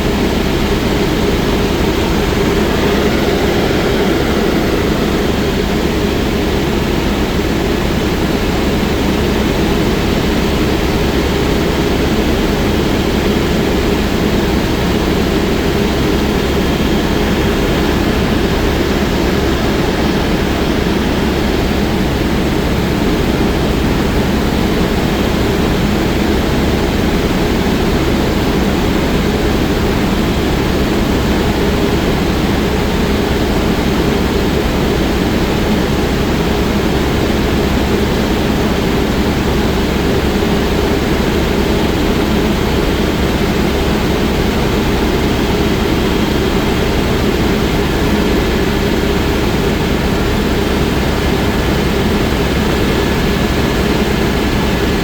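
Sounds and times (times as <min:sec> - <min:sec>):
faint steady whines: 0:00.0 - 0:55.0
helicopter engine and rotor: 0:00.0 - 0:55.0.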